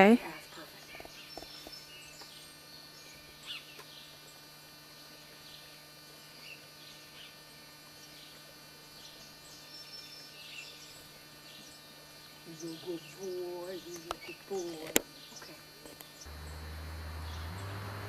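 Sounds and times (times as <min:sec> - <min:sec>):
birds chirping: 0:00.0 - 0:04.5, 0:05.3 - 0:18.0
steady low hum: 0:00.0 - 0:18.0.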